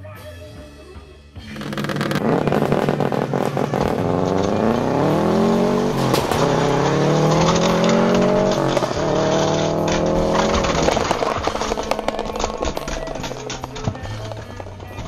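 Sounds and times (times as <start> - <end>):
race car engine accelerating: 1.4 - 15.0.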